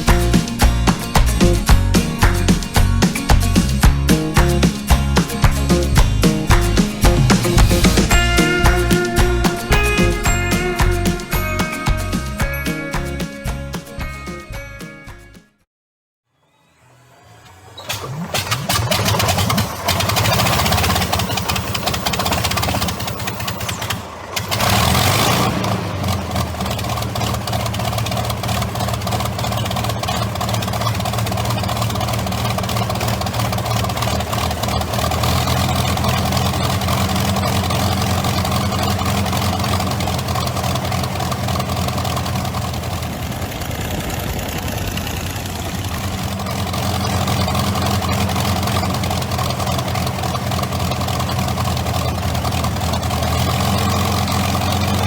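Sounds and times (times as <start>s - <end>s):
aircraft engine running: 0.0s - 13.4s, 16.3s - 55.0s.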